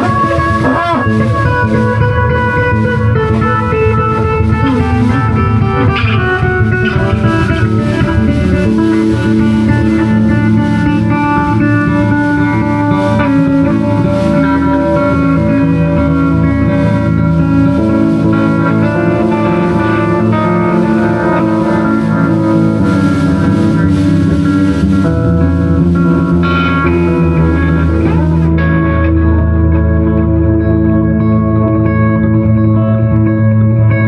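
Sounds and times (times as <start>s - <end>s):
live band jamming: 0.0s - 33.3s
electric guitar held notes: 0.0s - 34.0s.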